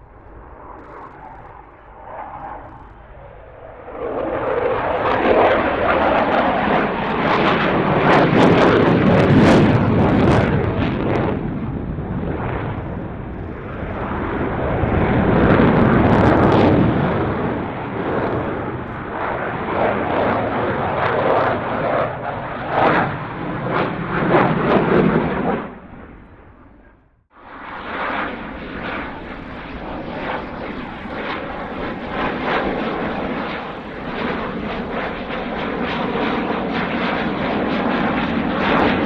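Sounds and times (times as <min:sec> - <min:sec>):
jet engines roaring overhead: 0:00.0 - 0:39.0.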